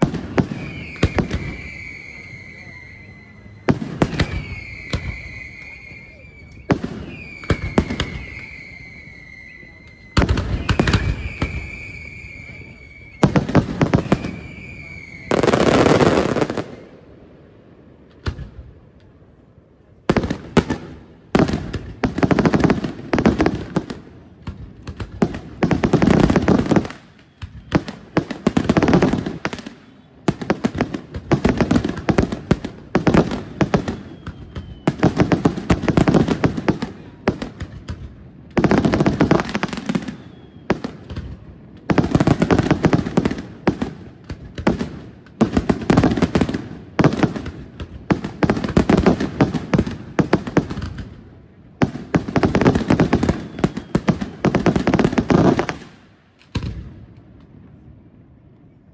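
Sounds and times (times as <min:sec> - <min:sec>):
fireworks bangs and crackling: 0:00.0 - 0:58.5.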